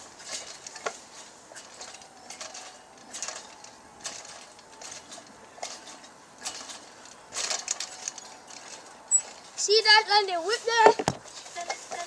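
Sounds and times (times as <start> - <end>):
scooter and springs clanking: 0.0 - 12.0.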